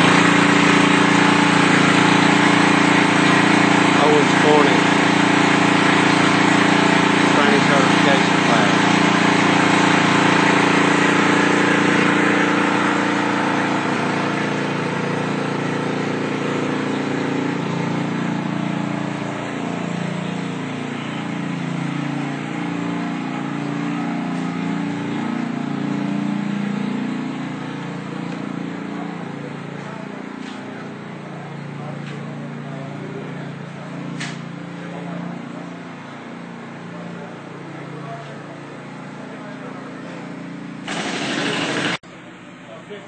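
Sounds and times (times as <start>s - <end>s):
insulation blowing machine drone: 0.0s - 43.0s.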